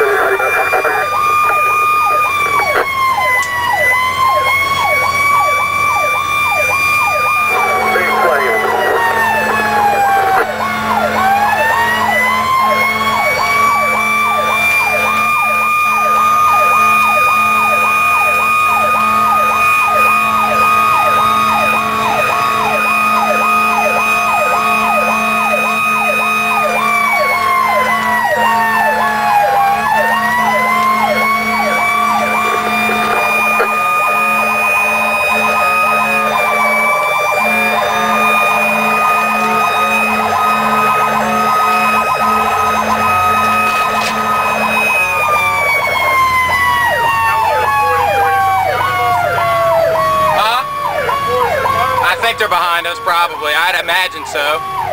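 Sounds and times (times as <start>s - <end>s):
siren winding up: 0.0s - 54.9s
siren yelping: 0.0s - 54.9s.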